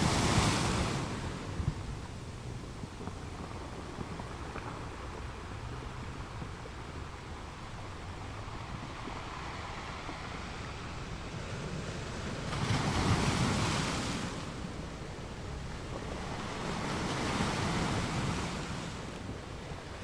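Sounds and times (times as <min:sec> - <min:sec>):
ocean waves washing onto beach: 0:00.0 - 0:20.0.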